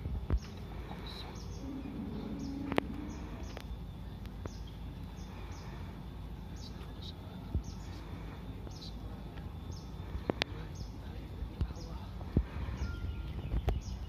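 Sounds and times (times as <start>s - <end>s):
low background noise: 0.0s - 14.0s
small bird chirping: 0.4s - 12.1s, 12.7s - 14.0s.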